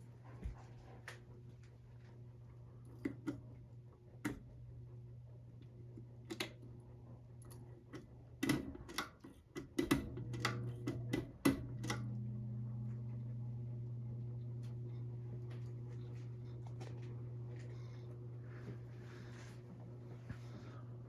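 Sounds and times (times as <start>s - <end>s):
ceiling fan motor humming: 0.0s - 21.0s.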